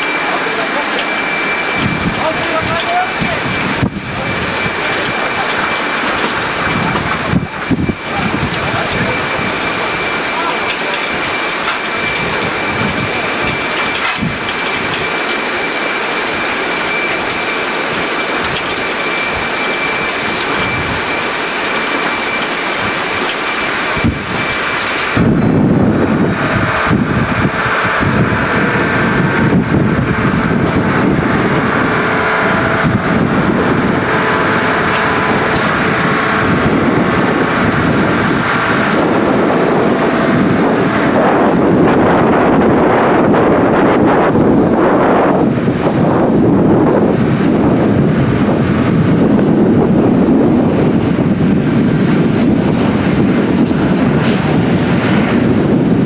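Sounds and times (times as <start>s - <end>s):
deep rushing noise: 0.0s - 56.0s
jet engines whining: 0.0s - 56.0s.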